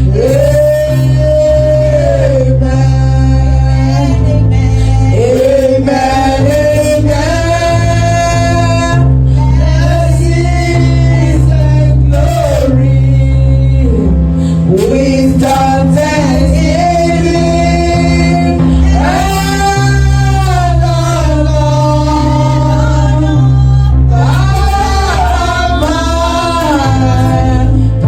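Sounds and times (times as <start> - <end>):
person singing gospel: 0.0 - 28.0
steady bass: 0.0 - 28.0
sustained keyboard chords: 0.0 - 28.0.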